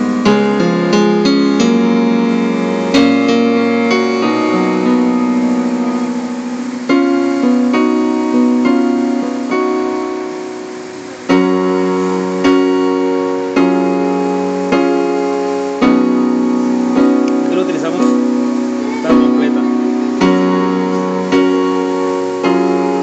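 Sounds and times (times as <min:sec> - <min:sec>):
electronic keyboard piano chords: 0:00.0 - 0:23.0.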